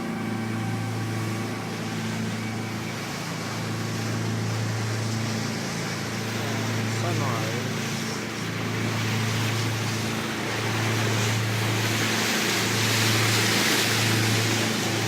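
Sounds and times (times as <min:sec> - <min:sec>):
boat engine droning: 0:00.0 - 0:15.0
wind and water rushing: 0:00.0 - 0:15.0.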